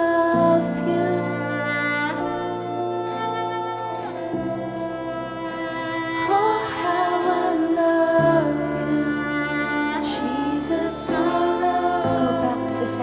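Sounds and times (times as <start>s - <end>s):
person singing wordlessly: 0.0s - 3.7s, 4.8s - 13.0s
worship band playing chords: 0.0s - 13.0s.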